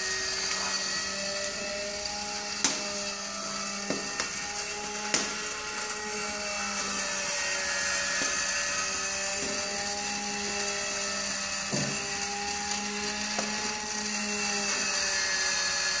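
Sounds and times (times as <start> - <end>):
rotisserie motor humming: 0.0 - 16.0.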